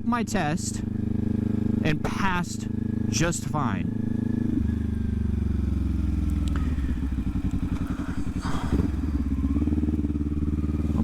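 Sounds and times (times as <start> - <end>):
motorcycle engine slowing and idling: 0.1 - 11.0.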